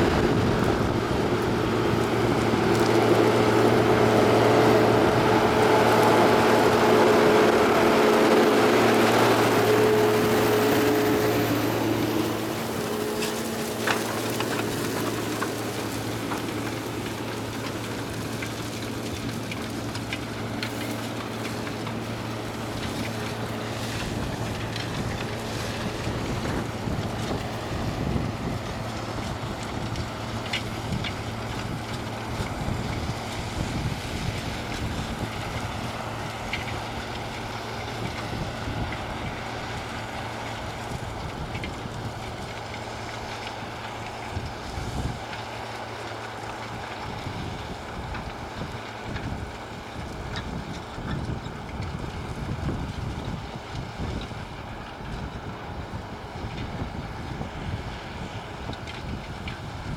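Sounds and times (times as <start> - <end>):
wind buffeting microphone: 0.0 - 43.0, 44.3 - 45.6, 46.7 - 59.9
tractor engines droning: 0.0 - 59.9.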